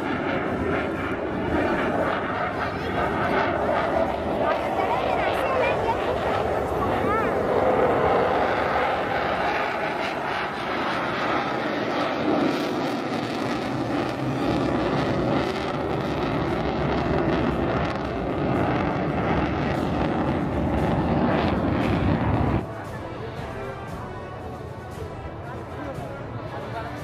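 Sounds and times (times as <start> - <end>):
fighter jet flying past: 0.0 - 24.0.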